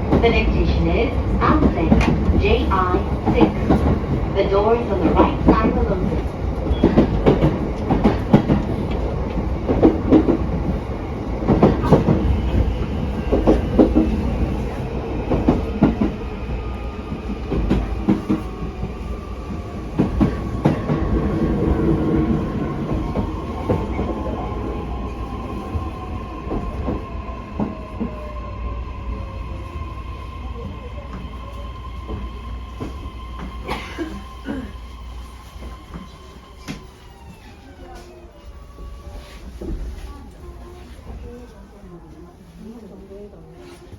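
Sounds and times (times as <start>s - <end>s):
train running rumble: 0.0s - 37.4s.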